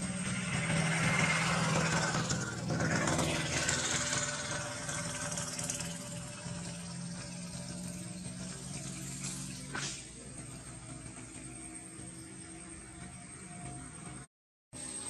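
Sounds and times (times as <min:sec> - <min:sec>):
engine running steadily: 0:00.0 - 0:15.0
outdoor background noise: 0:00.0 - 0:15.0.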